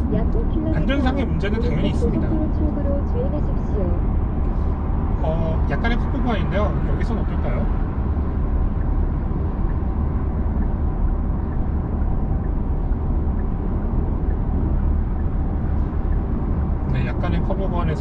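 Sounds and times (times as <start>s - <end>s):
road and tyre rumble: 0.0s - 18.0s.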